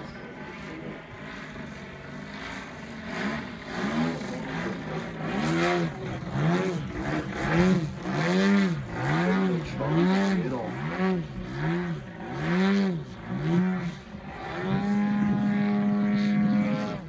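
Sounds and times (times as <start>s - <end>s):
model airplane engine and propeller: 0.0s - 17.0s.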